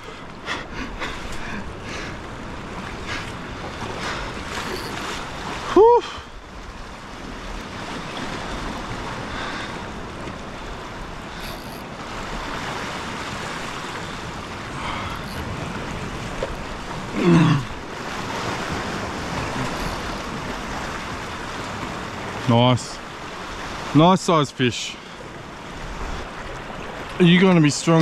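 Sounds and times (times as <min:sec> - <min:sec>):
surf washing against rocks: 0:00.0 - 0:28.0.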